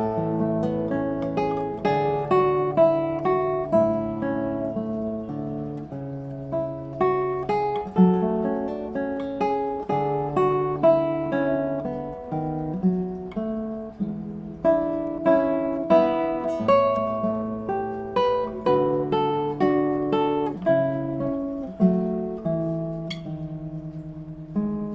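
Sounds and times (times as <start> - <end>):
solo acoustic guitar: 0.0 - 24.9.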